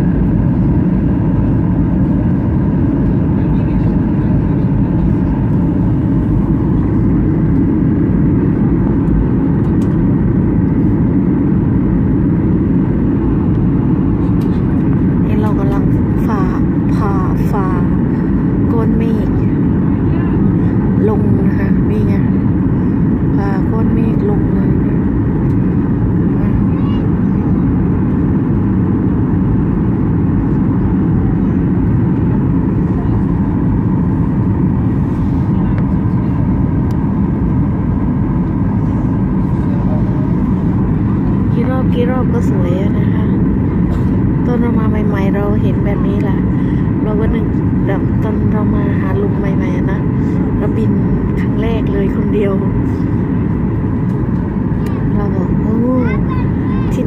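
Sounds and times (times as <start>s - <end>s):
jet airliner cabin drone: 0.0s - 57.0s.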